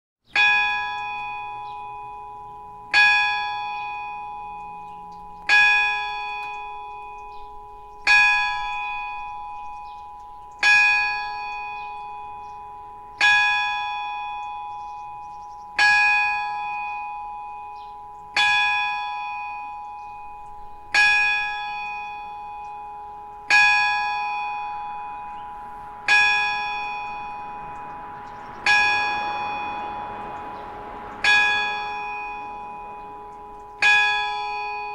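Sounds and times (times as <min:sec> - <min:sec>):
church bell ringing: 0:00.3 - 0:34.9.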